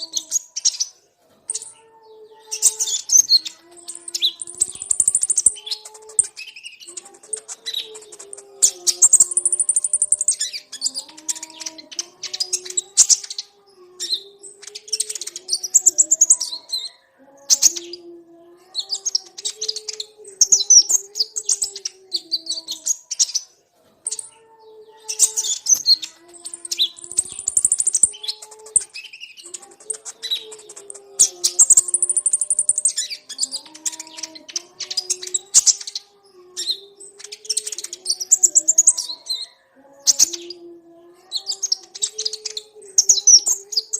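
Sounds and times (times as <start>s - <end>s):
birds chirping and twittering: 0.0s - 43.9s.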